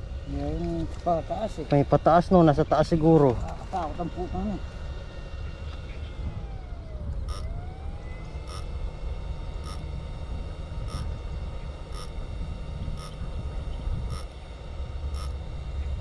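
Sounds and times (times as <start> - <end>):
faint whine: 0.0 - 16.0
wind rumbling on microphone: 3.0 - 16.0.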